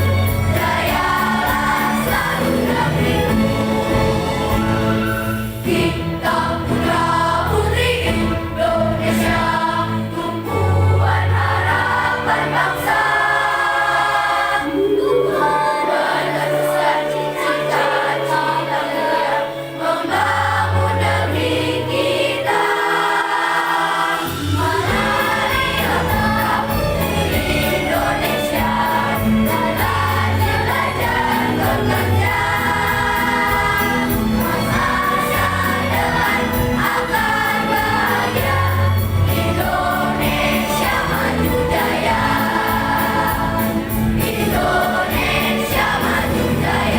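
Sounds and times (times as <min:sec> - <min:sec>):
children's choir singing: 0:00.0 - 0:46.9
instrumental accompaniment: 0:00.0 - 0:46.9.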